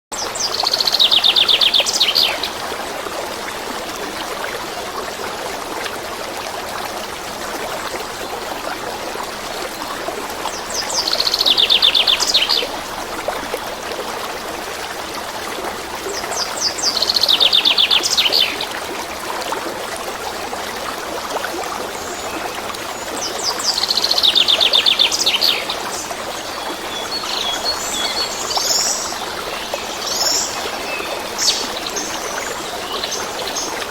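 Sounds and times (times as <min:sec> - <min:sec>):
stream running: 0:00.1 - 0:33.9.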